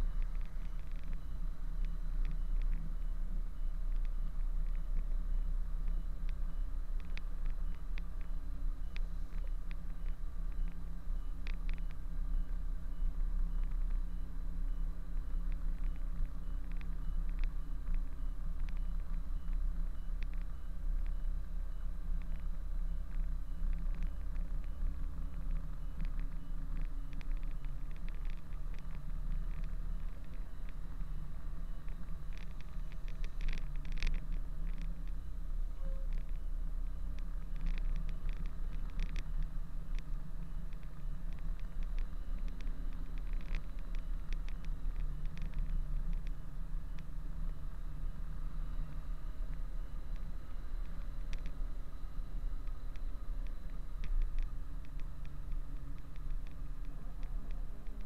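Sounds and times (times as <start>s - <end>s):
light ticks: 0.0s - 58.0s.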